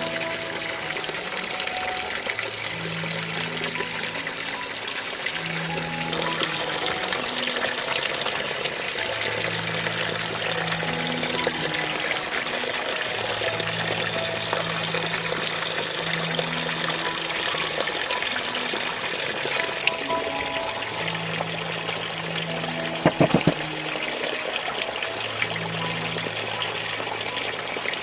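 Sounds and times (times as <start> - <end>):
soft music with low held notes: 0.0 - 28.0
water pouring and splashing: 0.0 - 28.0.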